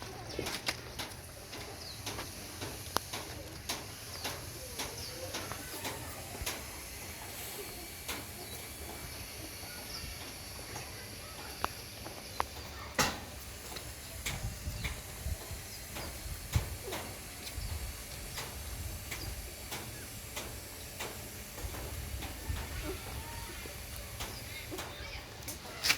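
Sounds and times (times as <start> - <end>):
puppies nursing wet clicks: 0.4 - 7.2, 10.2 - 25.9.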